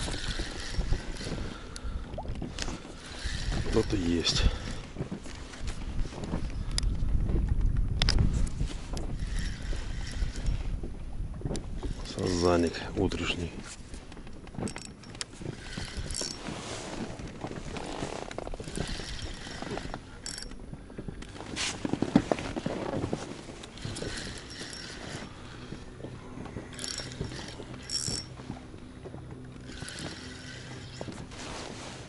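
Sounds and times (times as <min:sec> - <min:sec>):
fishing reel whirring and clicking: 0:00.0 - 0:07.0, 0:08.0 - 0:21.3, 0:23.6 - 0:31.4.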